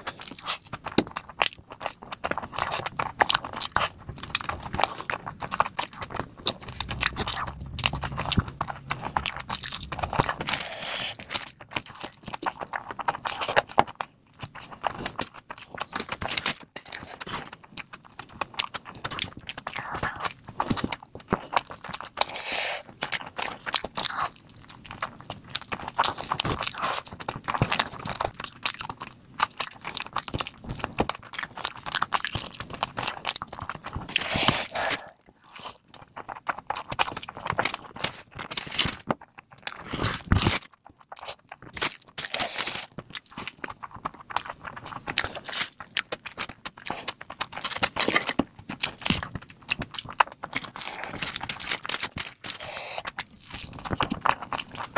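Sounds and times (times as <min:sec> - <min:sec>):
wet chewing and crunching: 0:00.0 - 0:54.9
fingers squishing rice: 0:08.8 - 0:54.9.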